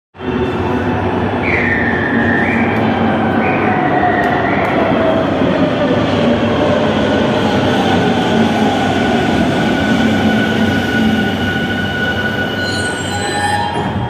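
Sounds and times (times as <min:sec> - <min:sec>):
metro train running: 0:00.2 - 0:14.0.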